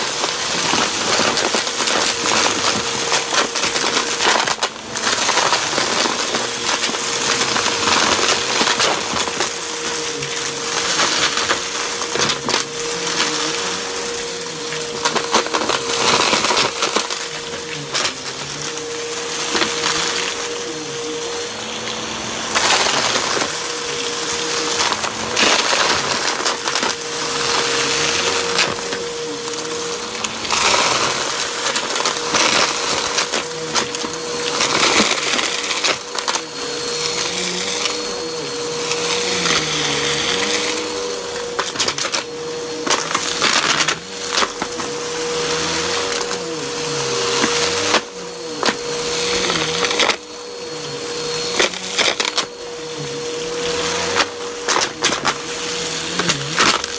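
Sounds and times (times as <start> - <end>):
vacuum cleaner motor hum: 0.0 - 56.9.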